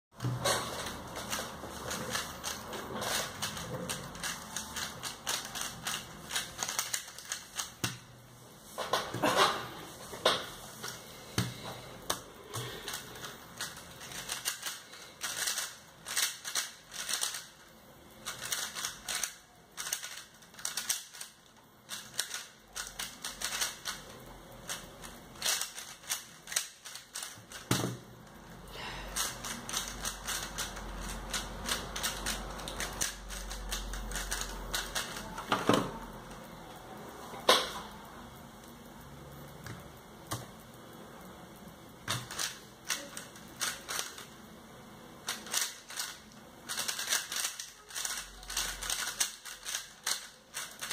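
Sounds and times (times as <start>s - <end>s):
speed cube clicking: 0.8s - 8.1s, 10.8s - 28.1s, 29.2s - 36.5s, 38.6s - 44.5s, 45.2s - 50.9s.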